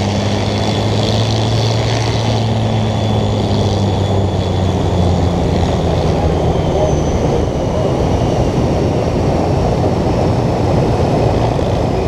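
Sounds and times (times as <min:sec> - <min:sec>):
piston aircraft engine running: 0:00.0 - 0:12.0.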